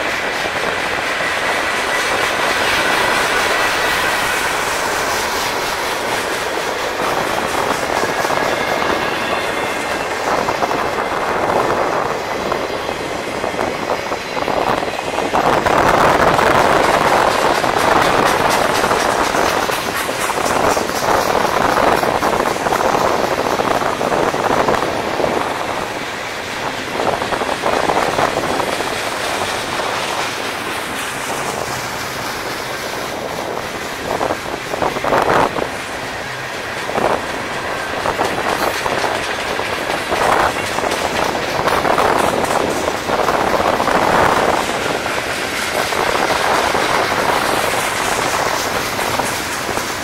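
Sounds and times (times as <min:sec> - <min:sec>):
freight cars rolling on rails: 0:00.0 - 0:50.0
train cars clanking: 0:00.0 - 0:50.0.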